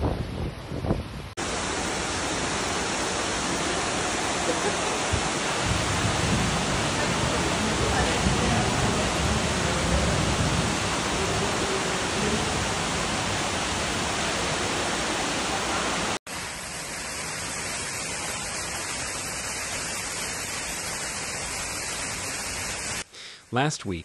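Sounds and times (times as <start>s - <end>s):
floodwater cascading down stairs: 1.4s - 23.1s
floodwater rushing through doors: 1.4s - 23.1s.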